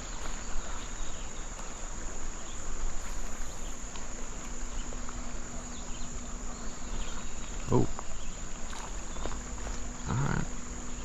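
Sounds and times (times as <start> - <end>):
constant even hiss: 0.0 - 11.0
insects droning: 0.0 - 11.0.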